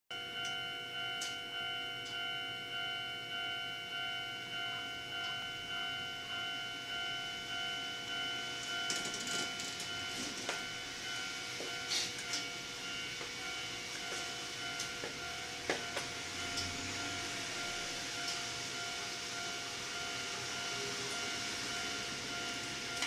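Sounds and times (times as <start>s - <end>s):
level-crossing warning bell: 0.1s - 23.0s.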